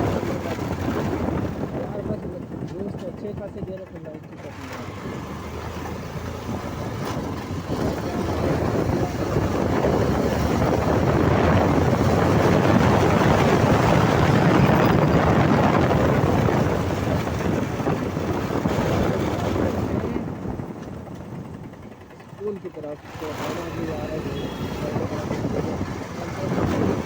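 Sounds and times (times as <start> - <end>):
wind rushing over microphone: 0.0 - 3.9, 4.8 - 27.0
motorcycle running: 0.0 - 27.0.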